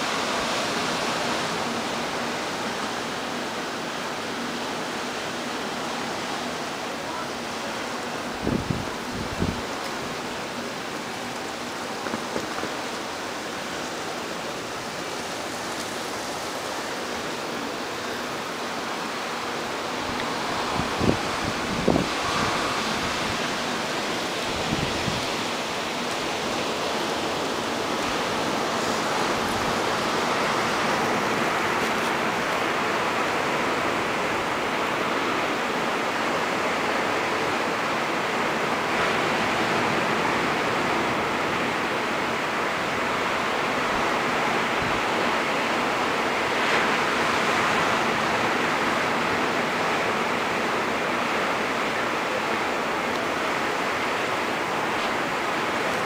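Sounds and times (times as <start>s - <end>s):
steady rushing hiss: 0.0s - 56.0s.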